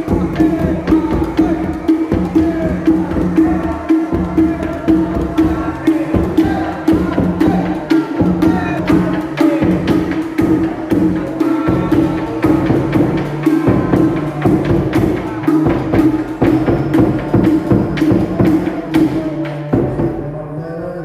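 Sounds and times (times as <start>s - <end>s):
music with percussion beat: 0.0s - 20.3s.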